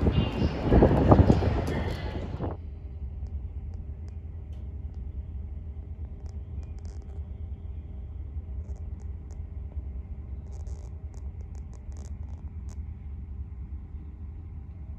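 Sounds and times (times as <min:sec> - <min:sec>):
constant hum: 0:00.0 - 0:14.9
low rumble: 0:00.0 - 0:14.9.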